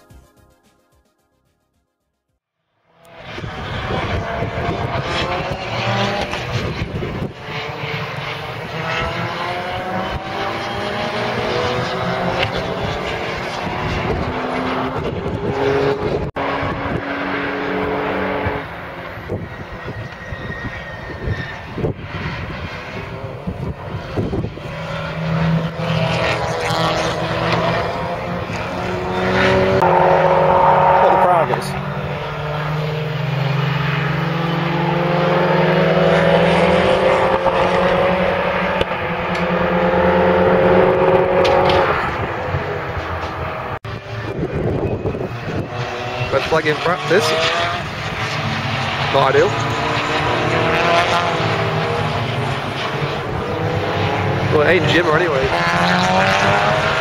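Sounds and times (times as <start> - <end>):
race cars passing at speed: 2.7 - 57.0.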